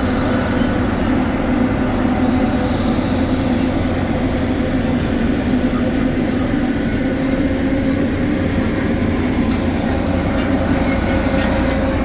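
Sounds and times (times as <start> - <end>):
heavy diesel machinery rumble: 0.0 - 12.0.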